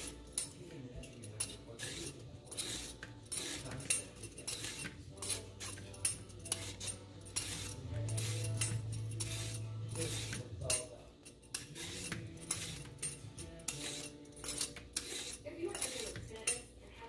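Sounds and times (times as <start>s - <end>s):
vegetable peeler scraping radish: 1.6s - 10.9s, 11.5s - 16.6s.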